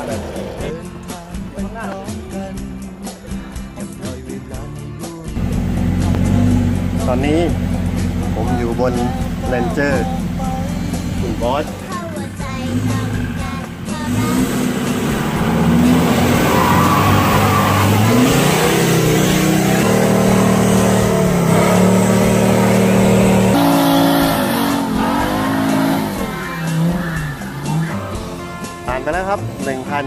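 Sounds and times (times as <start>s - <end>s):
diesel engine revving under load: 5.4s - 30.0s.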